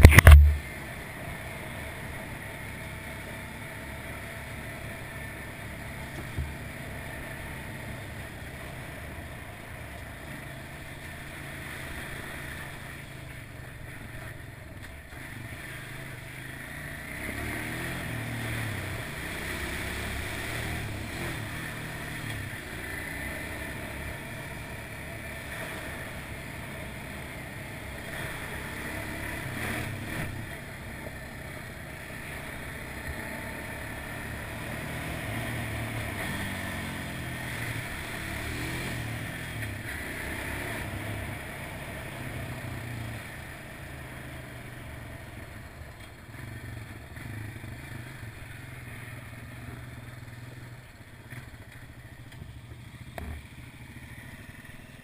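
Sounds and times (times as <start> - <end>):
quad engine running: 0.0 - 55.0.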